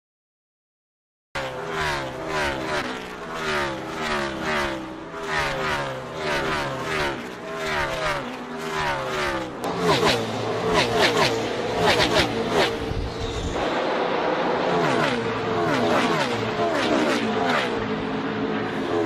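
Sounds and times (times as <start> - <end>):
race cars passing: 1.4 - 19.0.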